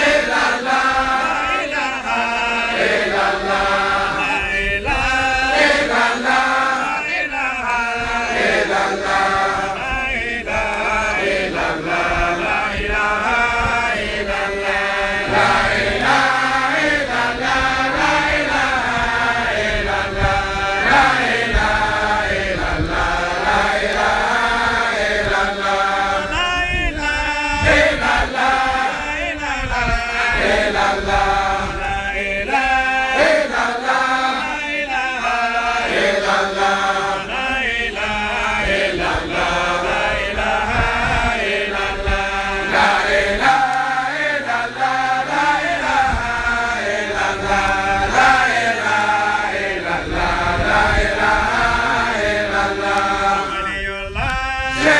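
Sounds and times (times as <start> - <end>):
men chanting together: 0.0 - 54.9.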